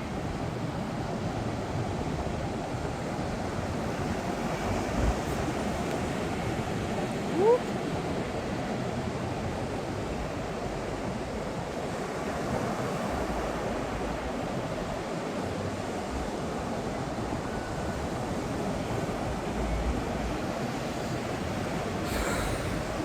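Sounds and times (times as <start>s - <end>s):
ocean surf washing onto beach: 0.0s - 23.0s
wind rumbling on microphone: 0.0s - 23.0s.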